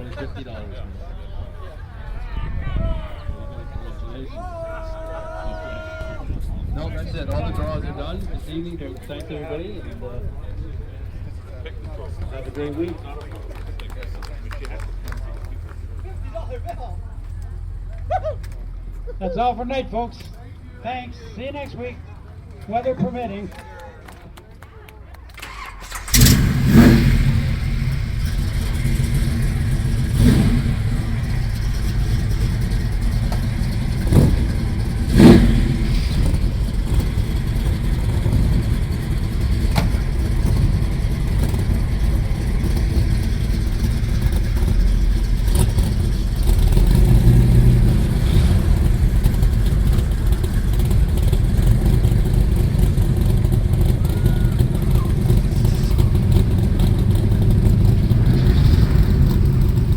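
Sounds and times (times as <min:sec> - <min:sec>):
car engine idling and revving: 0:03.6 - 0:22.8, 0:25.3 - 0:59.9.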